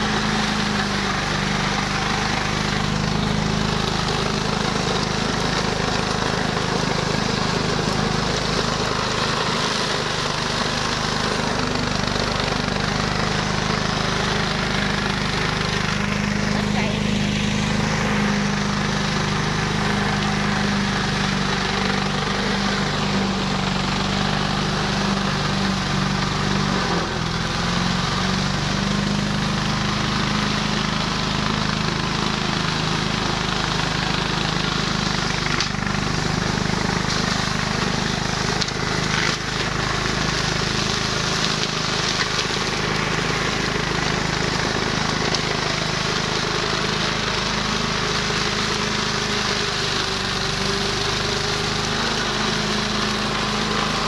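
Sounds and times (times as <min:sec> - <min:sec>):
grass cutter engine running: 0:00.0 - 0:54.0.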